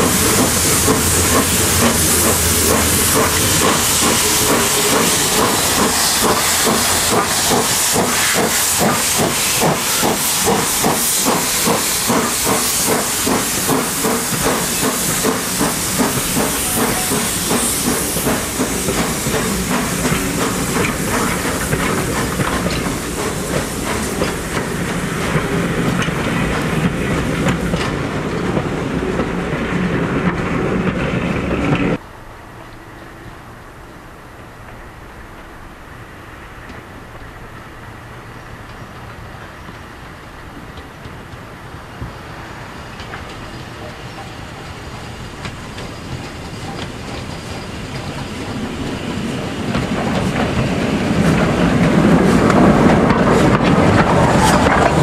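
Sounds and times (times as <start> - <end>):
loud steam hiss: 0.0 - 32.0, 41.5 - 55.0
steam locomotive exhaust beats: 0.0 - 32.0, 32.6 - 55.0
train wheels clicking over rail joints: 0.0 - 32.0, 36.6 - 55.0.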